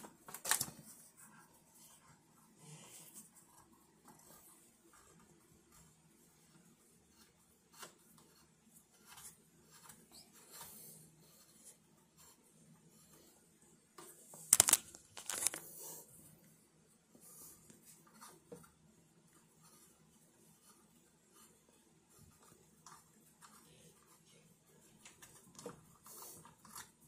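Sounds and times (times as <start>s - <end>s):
faint clicks and rustles: 0.0s - 27.0s.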